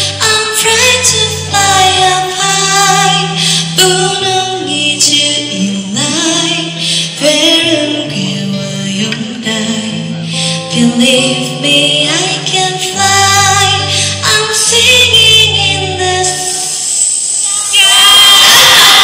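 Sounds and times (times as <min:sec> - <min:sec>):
woman singing a ballad: 0:00.0 - 0:16.8.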